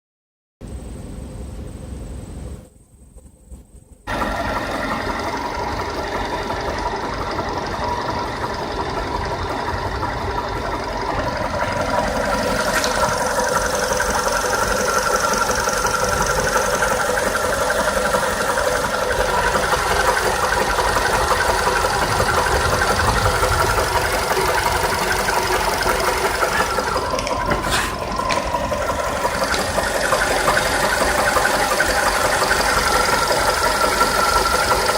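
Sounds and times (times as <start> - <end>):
car engine running: 1.9 - 34.9
engine knocking: 3.8 - 34.9.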